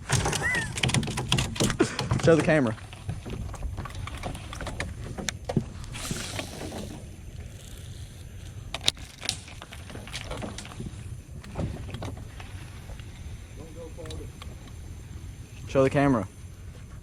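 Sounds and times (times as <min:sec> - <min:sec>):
knocks and clicks in a boat: 0:00.0 - 0:14.8
steady low rumble: 0:02.7 - 0:17.0.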